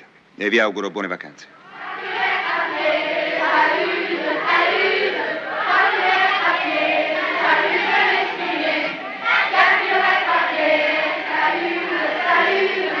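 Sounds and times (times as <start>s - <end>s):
children shouting: 1.7s - 13.0s.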